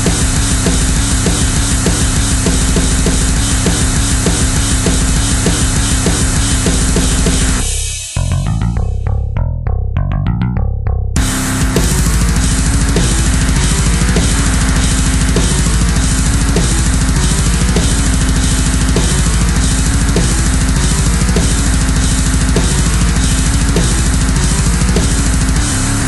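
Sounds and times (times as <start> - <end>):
heavy metal music: 0.0 - 9.4, 11.1 - 26.0.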